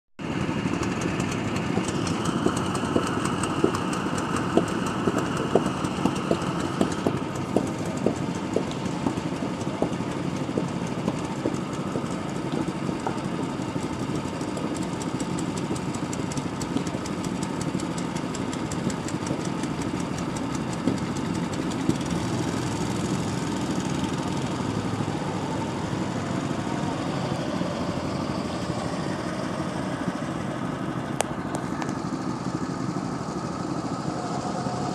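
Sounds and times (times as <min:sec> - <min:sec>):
go-kart engines running: 0:00.2 - 0:34.9.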